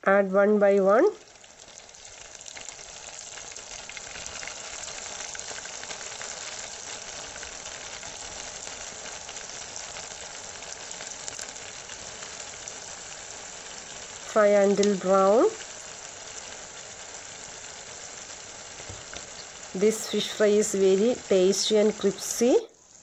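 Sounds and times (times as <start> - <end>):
fish sizzling in hot oil: 0.9 - 23.0.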